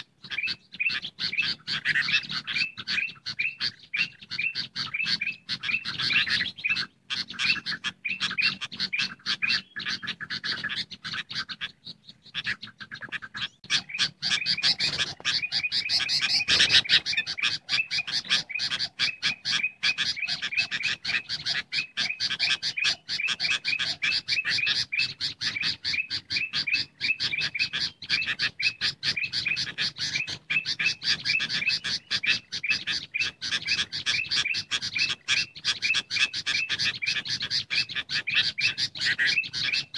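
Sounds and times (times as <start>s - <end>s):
bulbuls chirping: 0.0s - 39.9s.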